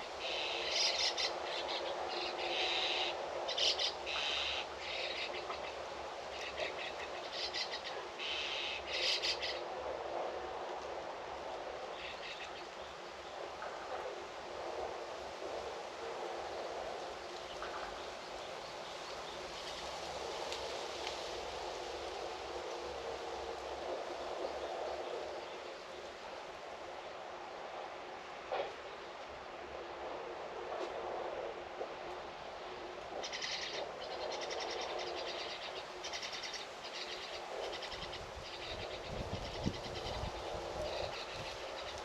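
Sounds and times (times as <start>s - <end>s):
steady outdoor hiss: 0.0s - 42.0s.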